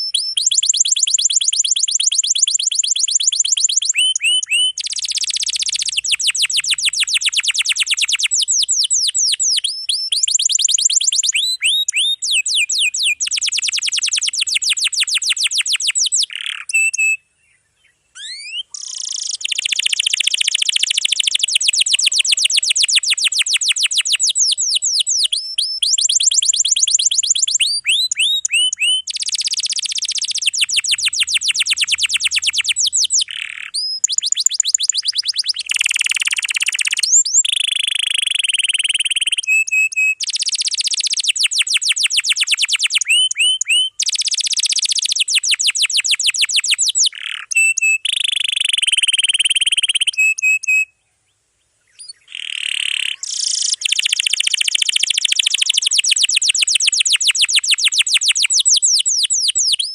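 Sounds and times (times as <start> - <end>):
canary singing trills: 0.0 - 51.0, 51.8 - 59.9.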